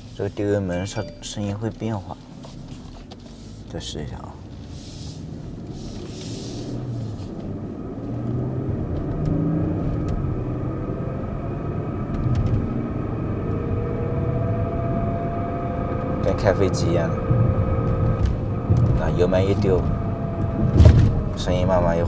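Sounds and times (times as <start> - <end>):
car driving and accelerating: 0.0 - 22.0.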